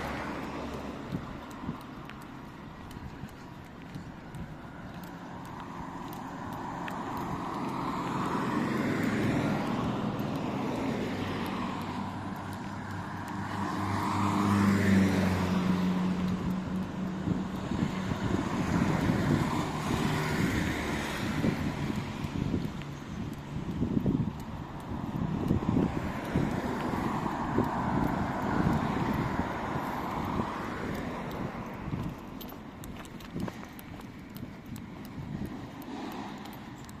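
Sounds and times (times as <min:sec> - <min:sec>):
vehicles passing by: 0:00.0 - 0:37.0.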